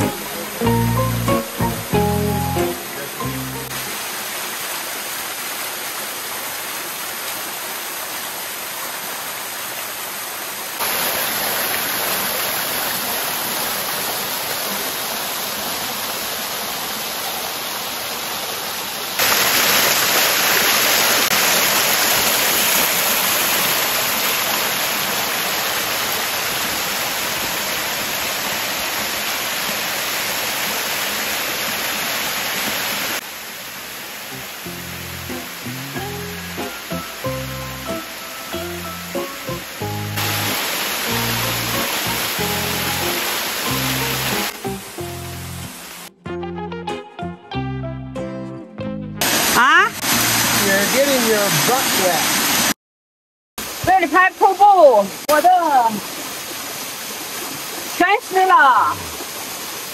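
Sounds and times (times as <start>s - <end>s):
waterfall rushing: 0.0s - 46.1s, 49.2s - 52.8s, 53.6s - 59.9s.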